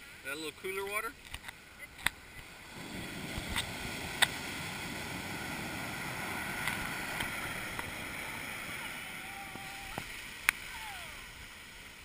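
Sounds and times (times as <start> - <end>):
ocean surf breaking: 1.6 - 12.0.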